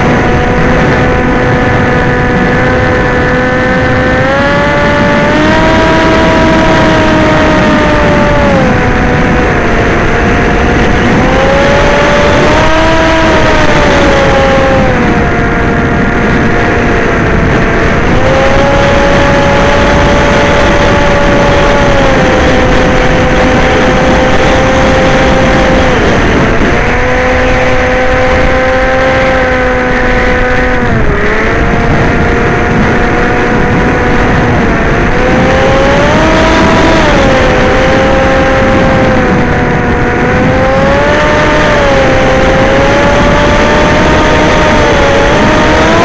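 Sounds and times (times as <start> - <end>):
drone motors whining: 0.0 - 46.0.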